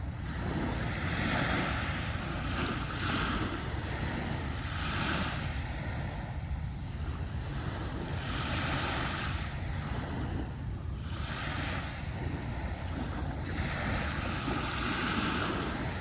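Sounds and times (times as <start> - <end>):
waves breaking on beach: 0.0 - 16.0
wind rumble on microphone: 0.0 - 16.0.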